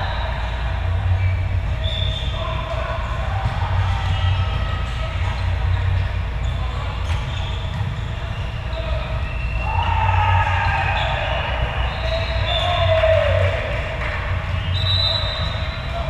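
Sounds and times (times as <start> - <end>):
low hall hum: 0.0 - 16.0
players' voices: 0.0 - 16.0.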